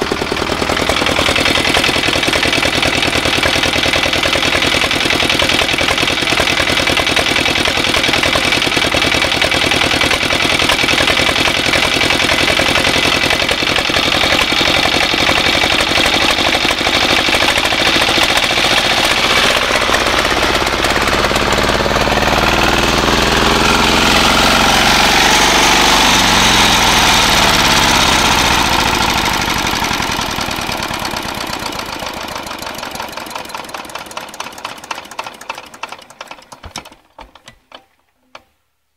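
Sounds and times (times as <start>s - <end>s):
tractor engine racing and knocking: 0.0s - 38.5s.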